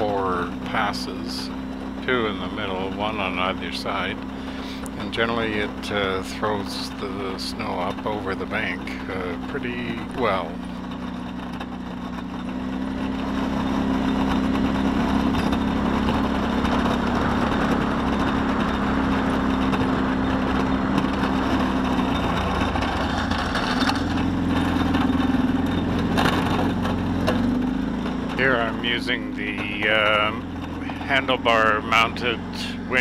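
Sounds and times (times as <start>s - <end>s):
atv engine running: 0.0s - 33.0s
plow blade pushing snow: 0.0s - 33.0s.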